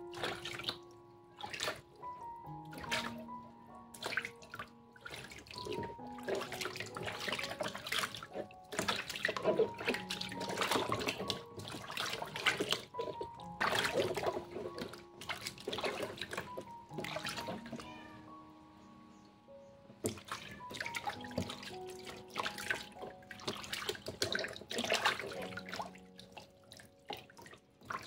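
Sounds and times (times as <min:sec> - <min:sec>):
water splashing in plastic tub: 0:00.0 - 0:18.2, 0:19.8 - 0:28.0
soft background music: 0:00.0 - 0:28.0.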